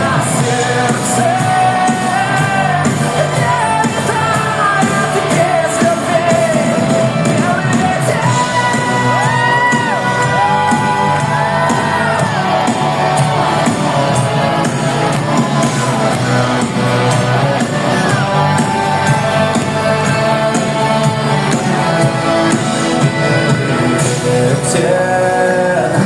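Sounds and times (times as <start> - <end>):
audience shouting: 0.0 - 25.0
live pop ballad: 0.0 - 26.0.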